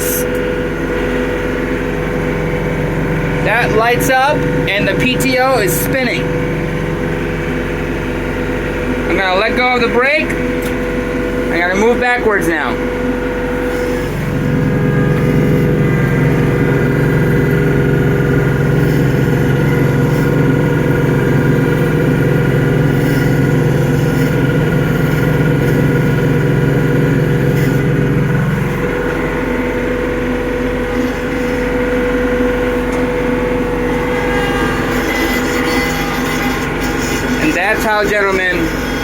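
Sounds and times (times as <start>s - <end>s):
diesel tractor running: 0.0s - 39.0s
snowblower spinning: 0.0s - 39.0s.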